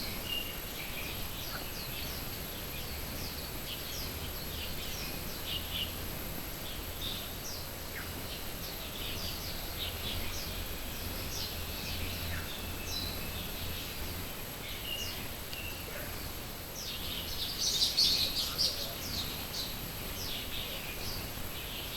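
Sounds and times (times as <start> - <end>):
birds chirping: 0.2 - 21.9.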